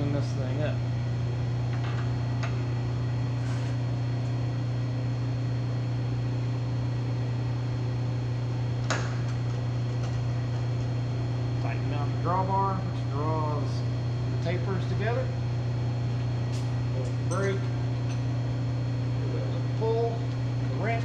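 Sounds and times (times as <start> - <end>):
electric motor hum: 0.0 - 21.0.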